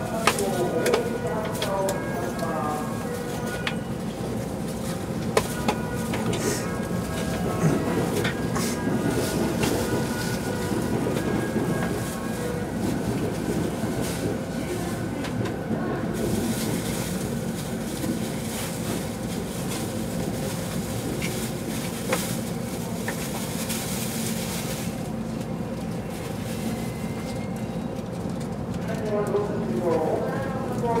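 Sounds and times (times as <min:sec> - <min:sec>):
train car hum: 0:00.0 - 0:31.0.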